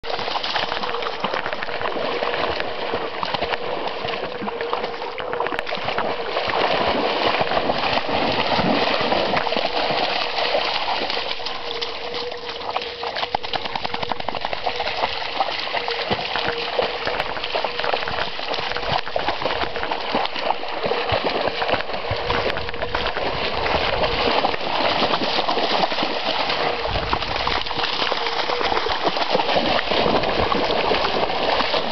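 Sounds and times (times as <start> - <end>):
dogs splashing through water: 0.0 - 31.9.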